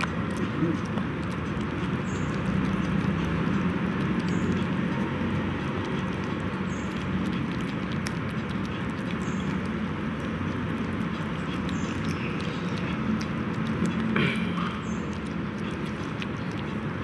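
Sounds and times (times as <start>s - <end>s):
puppies chewing and smacking: 0.0s - 17.0s.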